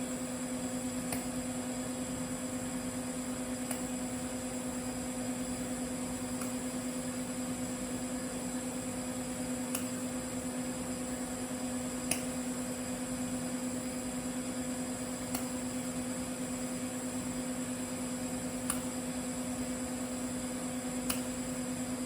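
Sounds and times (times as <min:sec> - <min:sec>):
welding arc hum and hiss: 0:00.0 - 0:22.0.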